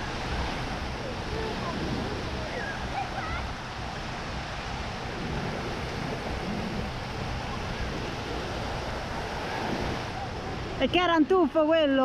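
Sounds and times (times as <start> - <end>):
wind on microphone: 0.0 - 11.9
surf breaking on sandy beach: 0.0 - 12.0.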